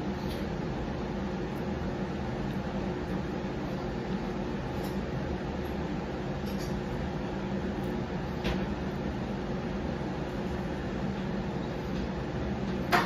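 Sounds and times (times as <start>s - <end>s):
mechanical room hum: 0.0s - 13.0s.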